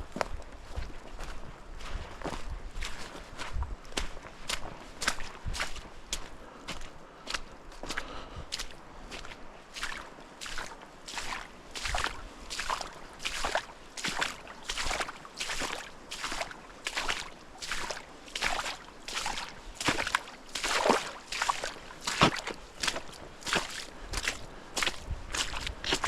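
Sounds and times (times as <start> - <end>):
footsteps walking: 0.0 - 26.0.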